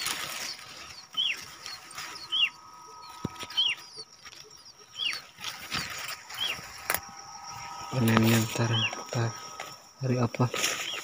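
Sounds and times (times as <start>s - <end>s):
grass leaves rustling: 0.0s - 11.0s
small bird chirping: 0.0s - 11.0s.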